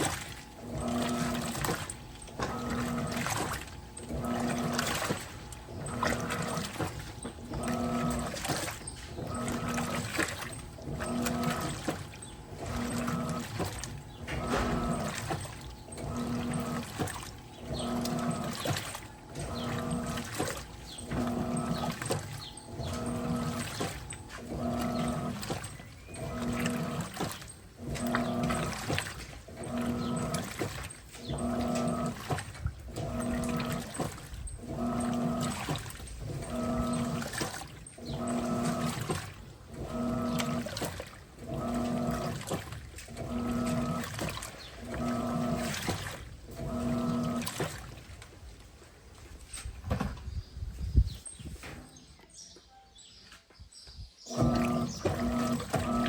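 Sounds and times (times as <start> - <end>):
washing machine motor humming: 0.0 - 52.1, 54.3 - 56.0
water swishing through clothes: 0.0 - 52.5, 54.3 - 56.0.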